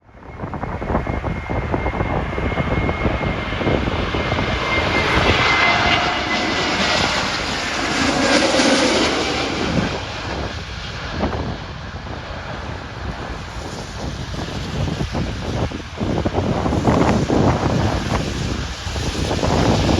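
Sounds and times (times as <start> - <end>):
jet engines whining overhead: 0.0 - 19.9
wind buffeting microphone: 0.1 - 19.9.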